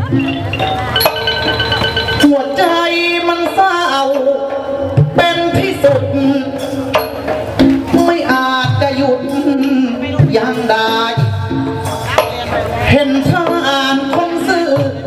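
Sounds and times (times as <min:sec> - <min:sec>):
drums struck: 0:00.0 - 0:15.0
amplified person singing: 0:02.2 - 0:15.0.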